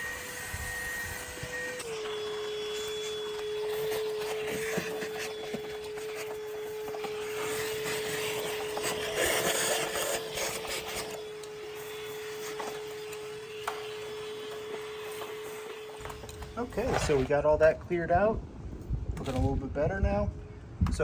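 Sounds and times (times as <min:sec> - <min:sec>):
vacuum motor whine: 0:00.0 - 0:17.4
nozzle scraping and rattling: 0:00.0 - 0:18.3.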